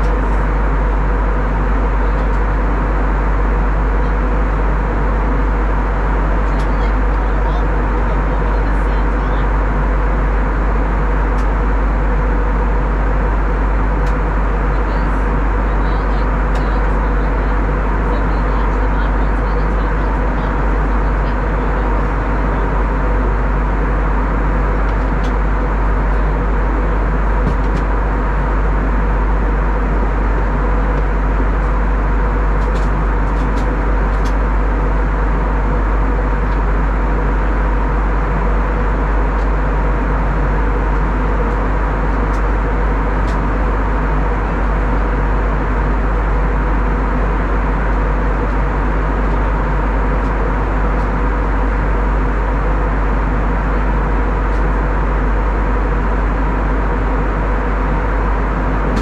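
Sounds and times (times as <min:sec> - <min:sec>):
faint steady hum: 0:00.0 - 0:59.0
jet engine rumble: 0:00.0 - 0:59.0.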